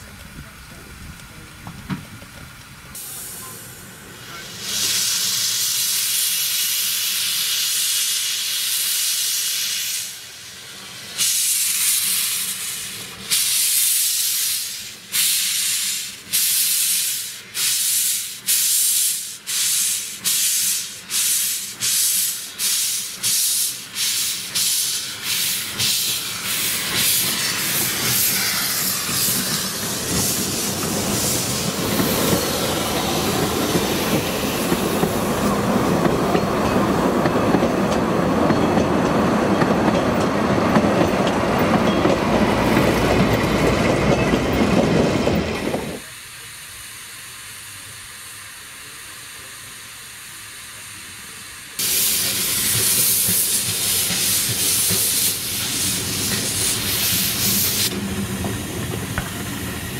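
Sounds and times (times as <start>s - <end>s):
steam locomotive chuffing: 0.0s - 59.9s
steam hissing: 1.7s - 59.9s.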